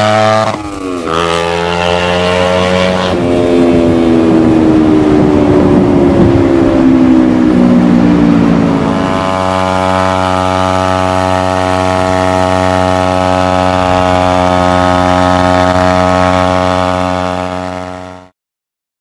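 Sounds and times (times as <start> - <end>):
motorcycle engine cruising: 0.0 - 18.3.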